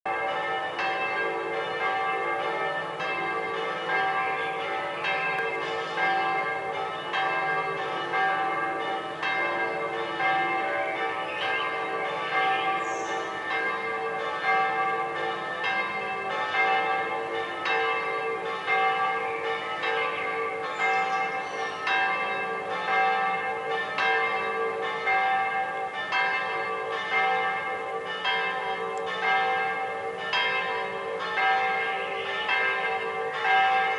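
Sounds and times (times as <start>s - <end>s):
church bells pealing: 0.1s - 33.9s.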